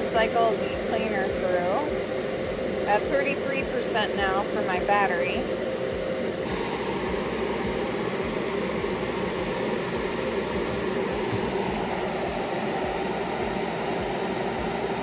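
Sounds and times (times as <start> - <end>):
small electric motors humming: 0.0 - 15.0.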